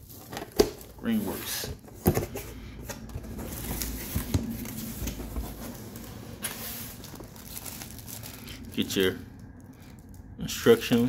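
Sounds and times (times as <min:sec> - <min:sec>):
rustling of plastic and cardboard: 0:00.0 - 0:10.2.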